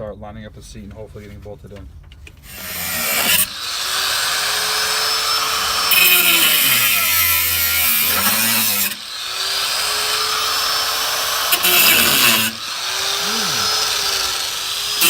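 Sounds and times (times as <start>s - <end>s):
angle grinder cutting metal: 2.5s - 15.0s.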